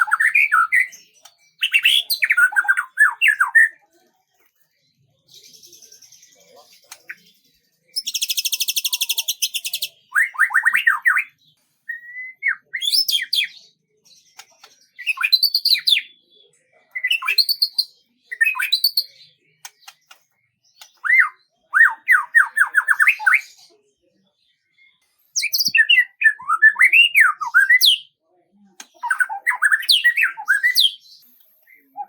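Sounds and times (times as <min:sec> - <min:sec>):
songbird singing: 0:00.0 - 0:03.8, 0:04.9 - 0:23.8, 0:24.5 - 0:28.2, 0:28.8 - 0:32.0.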